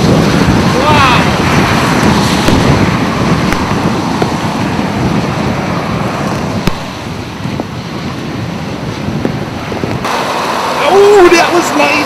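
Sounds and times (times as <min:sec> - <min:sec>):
storm wind and heavy rain: 0:00.0 - 0:12.0
wind noise on microphone: 0:00.0 - 0:12.0.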